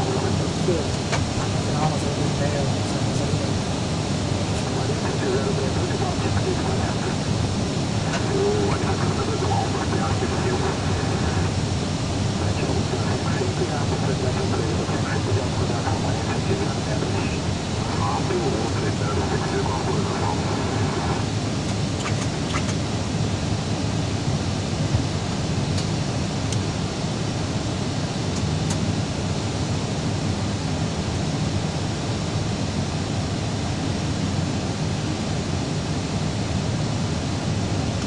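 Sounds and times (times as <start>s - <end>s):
airliner cabin engine noise: 0.0s - 38.0s.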